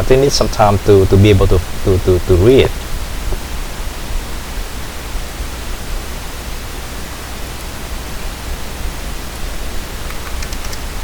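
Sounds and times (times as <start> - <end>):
low even hum: 0.0 - 11.0
steady background hiss: 0.0 - 11.0.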